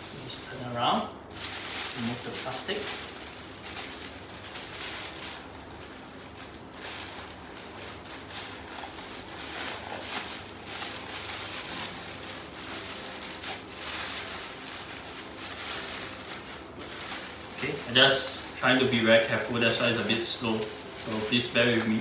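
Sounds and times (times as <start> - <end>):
plastic wrapping crinkling: 0.0 - 22.0.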